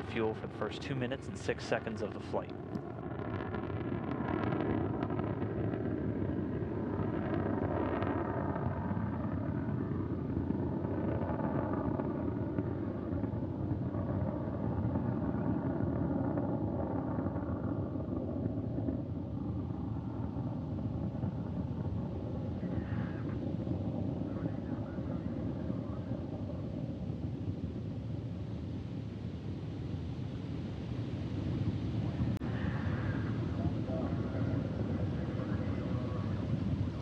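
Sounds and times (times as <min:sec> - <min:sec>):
rocket engines rumbling: 0:00.0 - 0:37.0.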